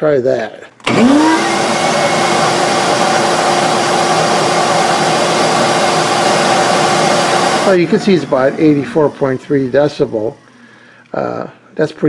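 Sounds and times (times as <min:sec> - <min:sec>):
wet dry vacuum running: 0:00.8 - 0:11.6.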